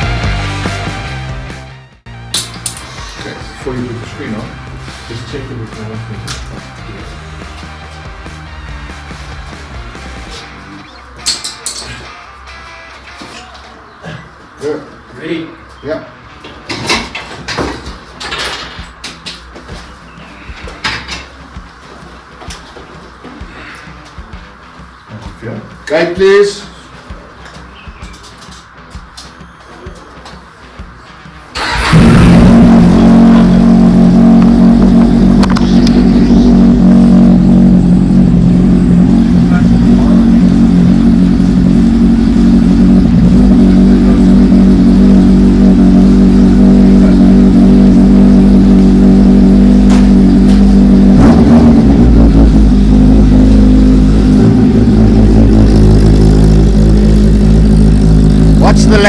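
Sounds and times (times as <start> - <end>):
motorcycle engine starting and running: 0.0 - 14.8, 16.4 - 26.2, 26.8 - 59.0.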